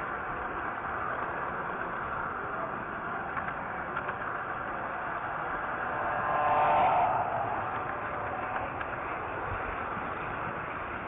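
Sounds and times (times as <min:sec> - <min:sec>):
model train wheels rumbling on track: 0:00.0 - 0:11.0.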